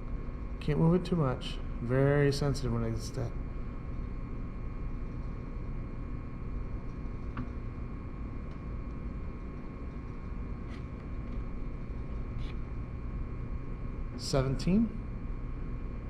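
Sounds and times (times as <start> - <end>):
workshop hum and hiss: 0.0 - 16.0.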